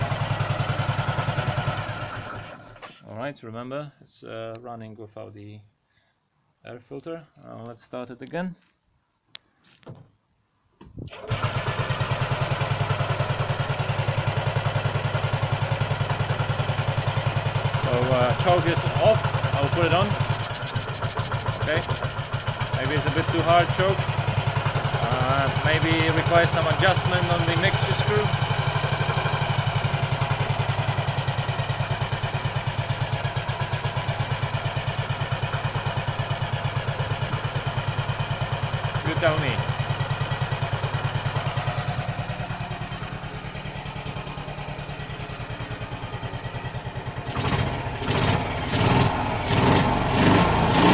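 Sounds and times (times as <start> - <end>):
scooter engine starting and idling: 0.0 - 3.0, 10.9 - 50.9.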